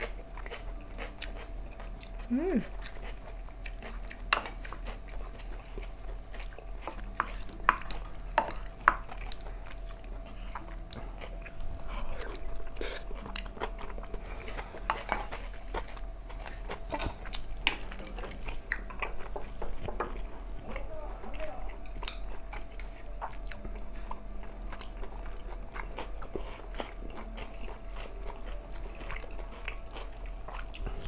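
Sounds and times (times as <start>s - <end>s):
soft chewing: 0.0s - 31.0s.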